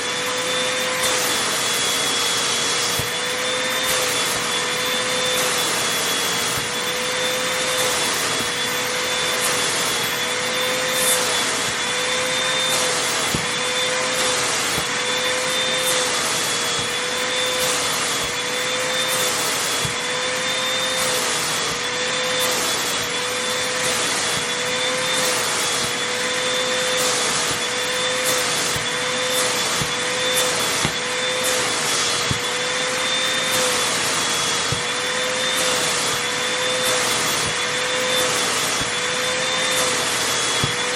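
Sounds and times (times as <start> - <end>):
vacuum cleaner motor whining: 0.0 - 40.9
vacuum nozzle swishing over fabric: 0.0 - 40.9.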